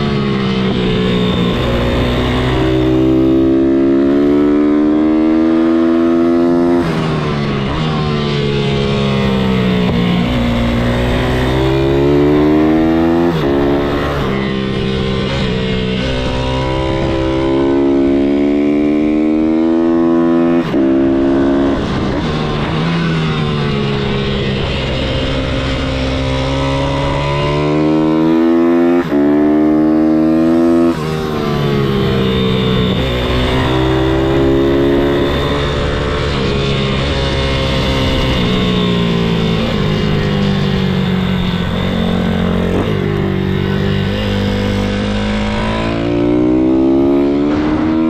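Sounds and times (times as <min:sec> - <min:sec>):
motorbike engine revving: 0:00.0 - 0:48.0.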